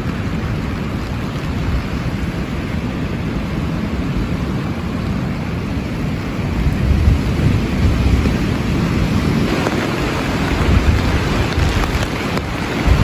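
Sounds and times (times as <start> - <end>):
heavy rain falling: 0.0 - 13.0
thunder rumbling: 0.0 - 13.0.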